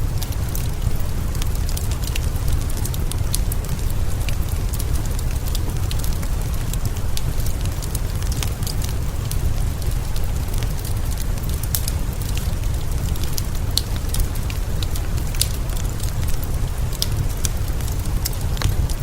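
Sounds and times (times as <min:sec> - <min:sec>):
rain hissing: 0:00.0 - 0:19.0
wood fire crackling: 0:00.0 - 0:19.0.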